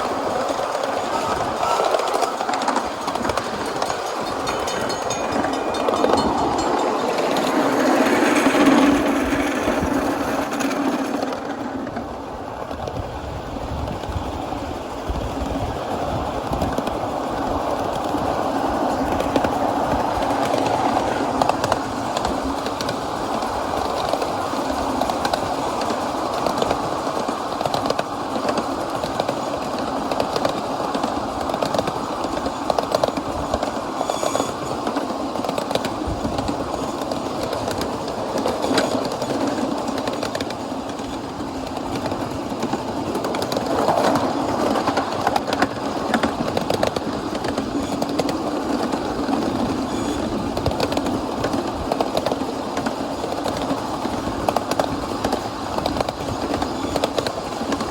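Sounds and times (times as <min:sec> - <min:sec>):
miniature steam train running: 0:00.0 - 0:57.9.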